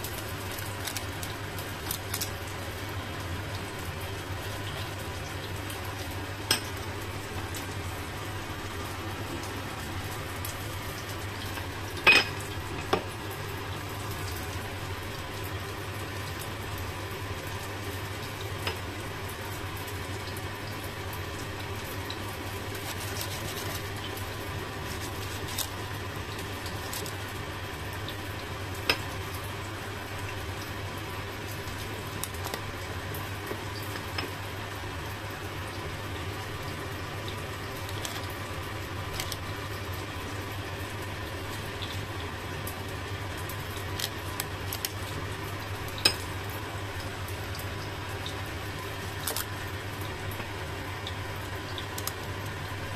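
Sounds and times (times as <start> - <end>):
steady low hum and hiss: 0.0 - 52.9.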